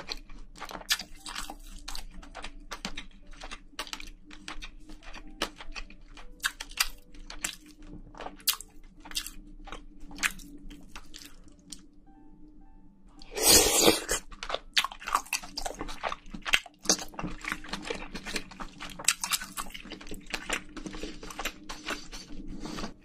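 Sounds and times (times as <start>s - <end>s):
chewing crunches: 0.0s - 11.8s, 13.3s - 23.0s.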